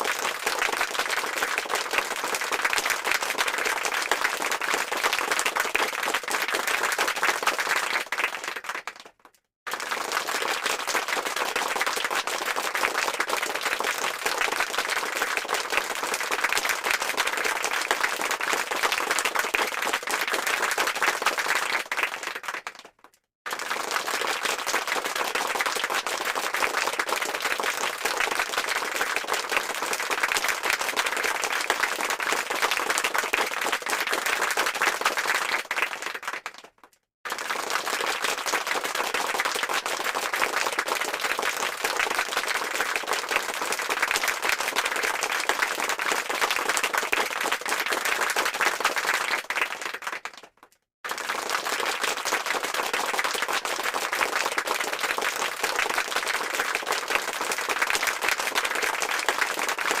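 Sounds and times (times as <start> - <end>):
crowd clapping: 0.0 - 60.0.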